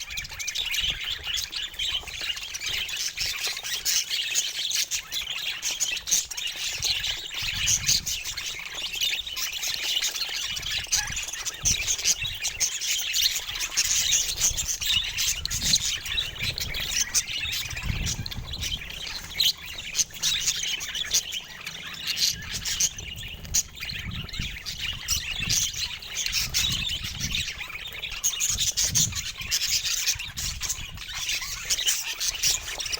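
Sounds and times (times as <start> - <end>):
budgerigars chattering: 0.0 - 32.9.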